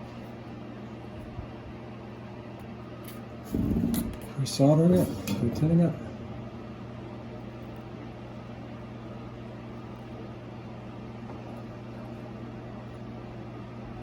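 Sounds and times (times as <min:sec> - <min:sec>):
low hum of running equipment: 0:00.0 - 0:14.0.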